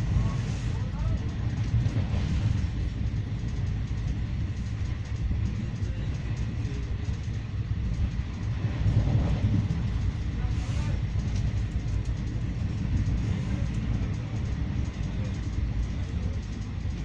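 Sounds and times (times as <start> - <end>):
train coach rumbling at speed: 0.0 - 17.0.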